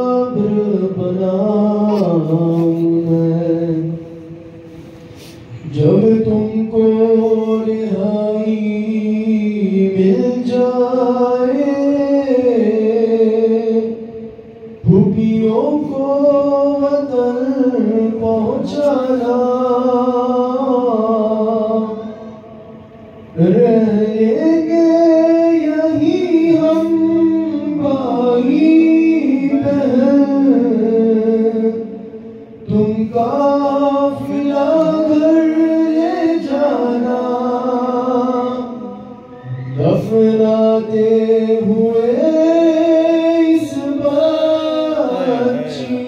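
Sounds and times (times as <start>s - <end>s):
man chanting a lament: 0.0s - 4.4s, 5.6s - 14.0s, 14.8s - 22.7s, 23.4s - 46.0s.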